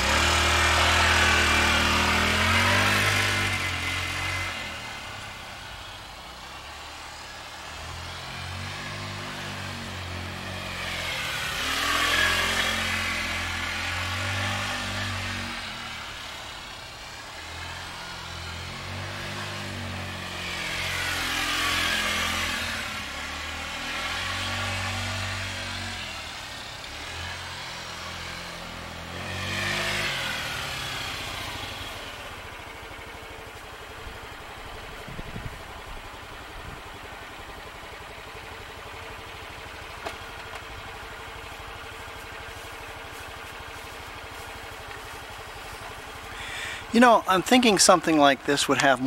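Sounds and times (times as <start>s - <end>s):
scooter engine revving: 0.0s - 49.0s.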